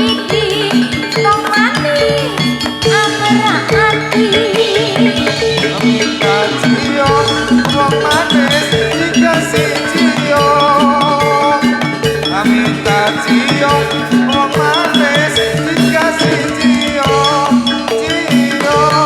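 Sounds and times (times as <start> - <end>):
drums: 0.0 - 19.0
metallophones playing: 0.0 - 19.0
pitch-bending melody: 2.3 - 19.0.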